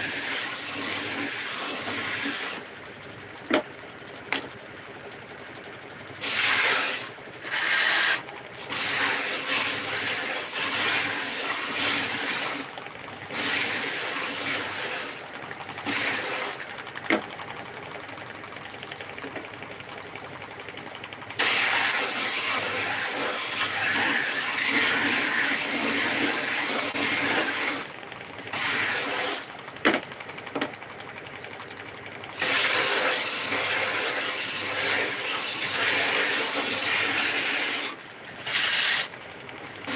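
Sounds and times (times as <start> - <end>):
belt sander running: 0.0 - 4.6, 6.2 - 39.9.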